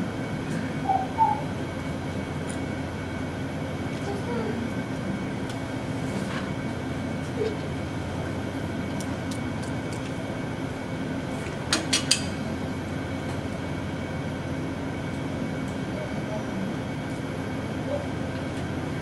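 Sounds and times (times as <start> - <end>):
room hum and hiss: 0.0 - 19.0.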